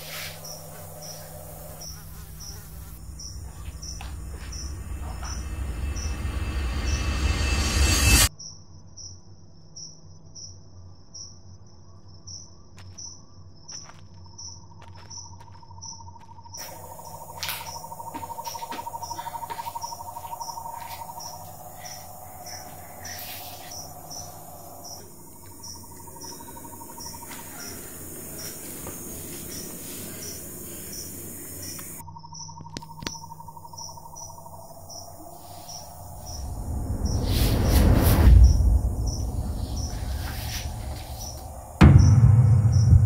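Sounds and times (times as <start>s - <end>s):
crickets chirping: 0.0s - 43.0s
low rapid insect trill: 0.0s - 43.0s.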